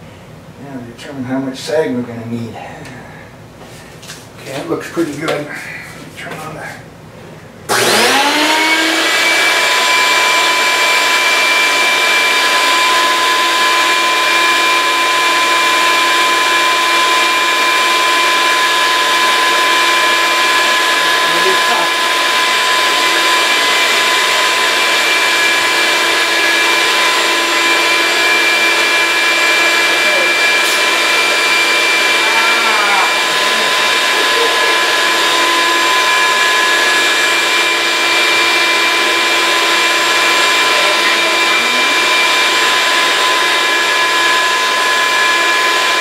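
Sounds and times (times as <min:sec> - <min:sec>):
vacuum motor whining: 0:07.7 - 0:46.0.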